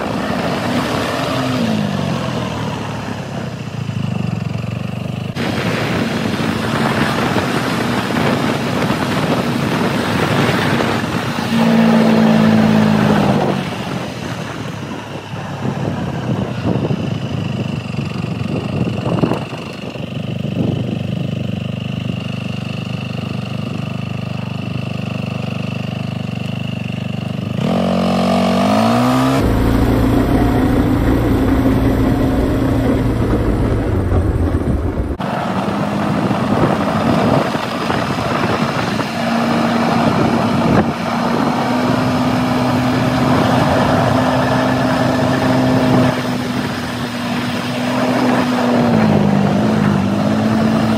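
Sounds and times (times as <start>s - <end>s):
quad engine idling and revving: 0.0s - 50.9s
wind and road noise: 0.0s - 50.9s.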